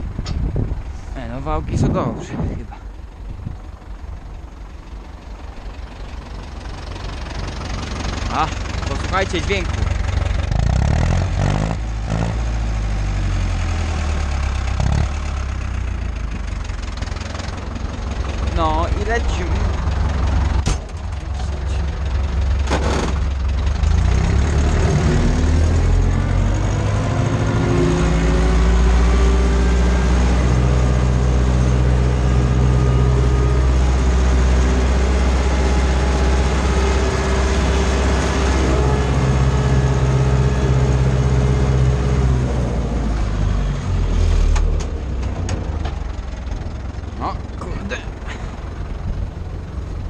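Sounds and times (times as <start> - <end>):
diesel engine drone under load: 0.0 - 50.0.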